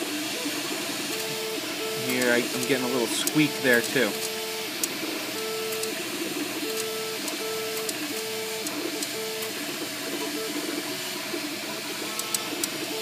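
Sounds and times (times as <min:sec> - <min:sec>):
printer stepper motors whining: 0:00.0 - 0:13.0.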